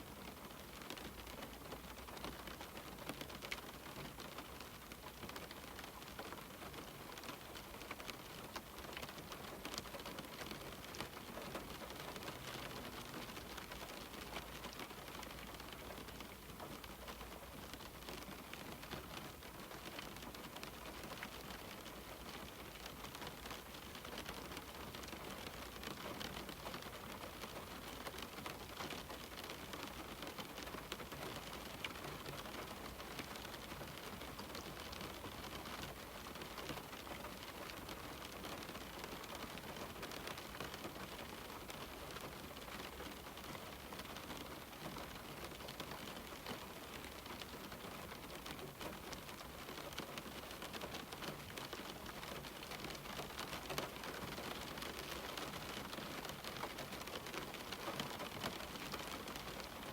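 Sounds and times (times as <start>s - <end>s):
rain hissing on a window: 0.0s - 59.9s.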